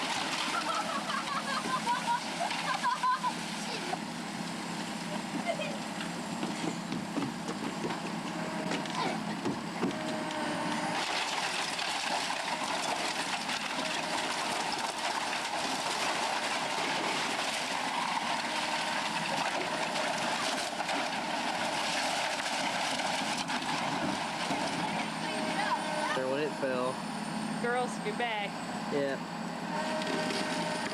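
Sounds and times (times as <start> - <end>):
heavy demolition machinery running: 0.0 - 30.9.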